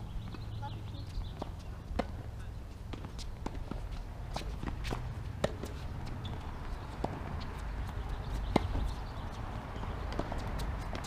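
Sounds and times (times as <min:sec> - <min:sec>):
tennis ball bouncing: 0:00.2 - 0:11.0
shoes scuffing on court: 0:00.3 - 0:11.0.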